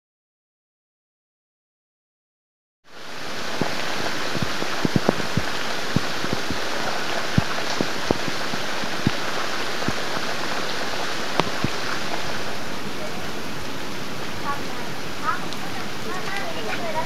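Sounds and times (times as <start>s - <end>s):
heavy rain falling: 2.9s - 17.0s.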